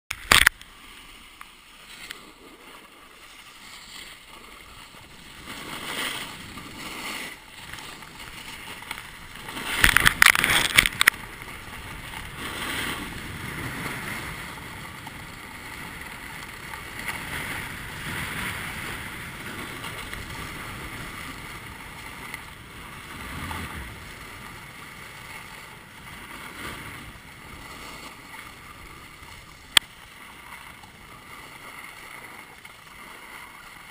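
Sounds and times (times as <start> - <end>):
skis carving on snow: 0.3 - 33.9.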